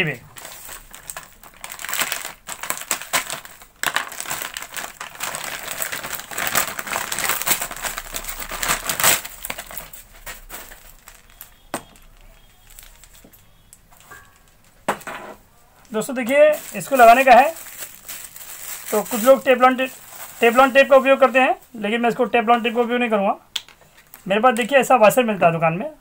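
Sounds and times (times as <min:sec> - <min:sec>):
plastic bag crinkling: 0:00.0 - 0:15.2, 0:15.9 - 0:23.2.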